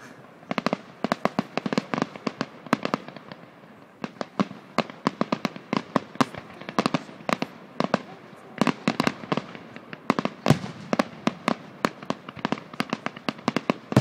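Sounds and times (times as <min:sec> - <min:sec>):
fireworks popping and banging: 0:00.0 - 0:14.0.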